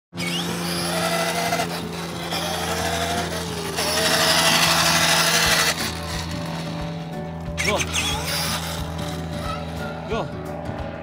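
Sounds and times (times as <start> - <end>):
plastic wheels rolling on asphalt: 0.2 - 9.6
small electric motor whine: 0.2 - 10.1.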